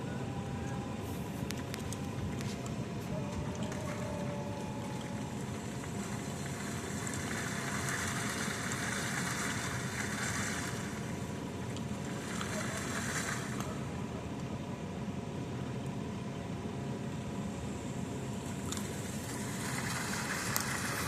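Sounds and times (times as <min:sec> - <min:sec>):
construction machinery running: 0:00.0 - 0:21.0.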